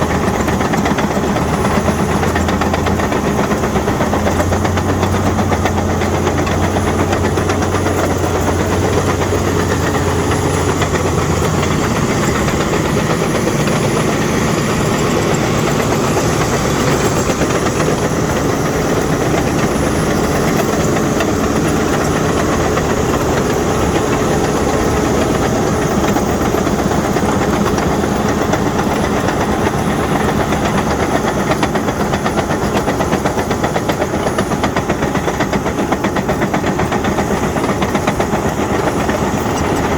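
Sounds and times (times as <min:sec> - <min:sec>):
bulldozer diesel engine running: 0:00.0 - 0:39.9
steel tracks clattering and squealing: 0:00.0 - 0:39.9.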